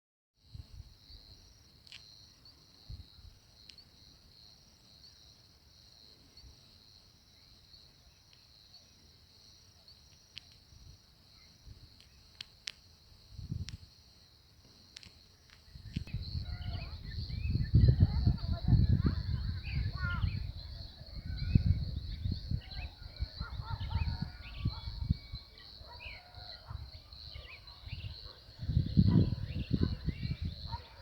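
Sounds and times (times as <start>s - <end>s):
insects chirping: 0.4s - 31.0s.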